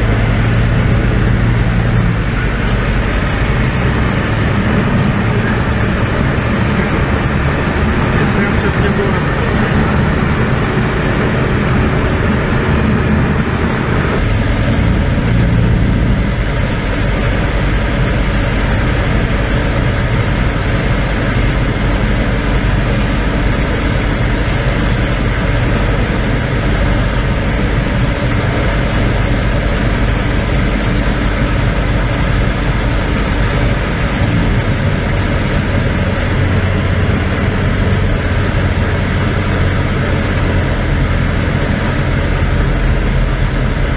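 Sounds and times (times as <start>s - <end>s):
light aircraft engine droning: 0.0s - 43.9s.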